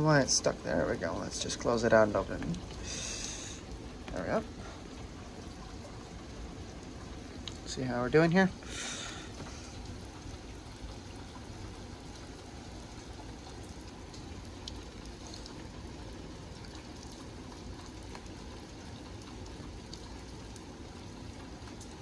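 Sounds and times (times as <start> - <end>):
rain hissing: 0.0 - 22.0
sharp drips and taps: 0.0 - 22.0.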